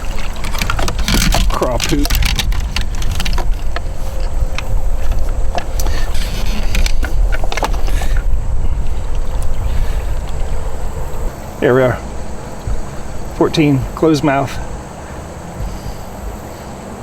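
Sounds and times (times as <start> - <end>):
knocks and clicks of gear: 0.0 - 17.0
steady low rumble: 0.0 - 17.0.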